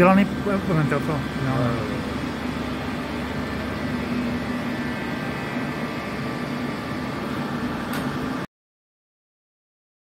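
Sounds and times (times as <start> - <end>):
workshop machinery hum: 0.0 - 8.5
faint high whine: 0.2 - 8.5.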